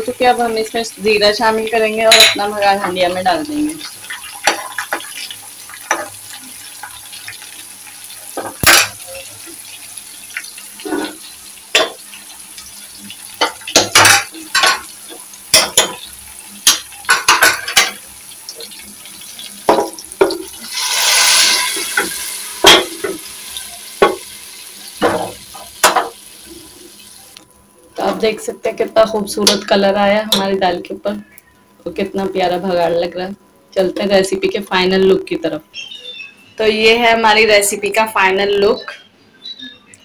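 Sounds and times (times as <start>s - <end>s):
food sizzling in hot oil: 0.0s - 38.8s.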